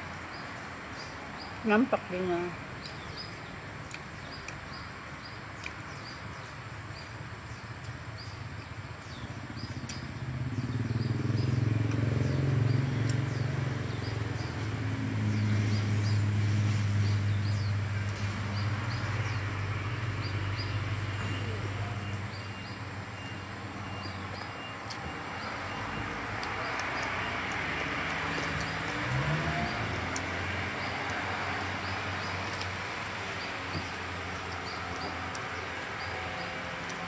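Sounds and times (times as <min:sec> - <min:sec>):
low engine rumble: 0:00.0 - 0:37.0.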